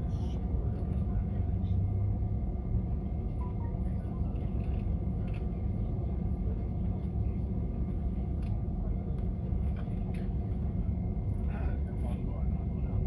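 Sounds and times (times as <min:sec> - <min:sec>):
faint steady whine: 0:00.0 - 0:13.0
low rumble of idling jet engines: 0:00.0 - 0:13.0.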